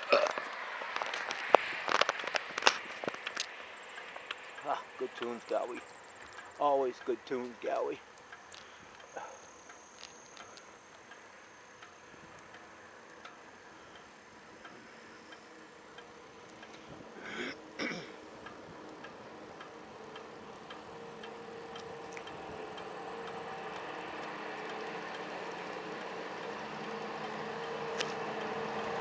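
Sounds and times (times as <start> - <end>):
bicycle ticking: 0.0 - 29.0
motor hum: 0.0 - 29.0.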